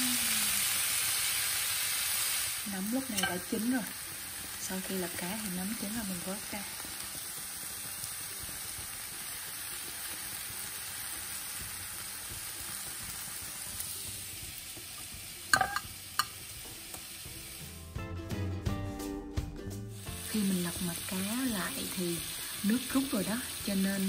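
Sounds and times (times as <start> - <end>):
fish sizzling in a frying pan: 0.0 - 17.8, 19.9 - 24.0.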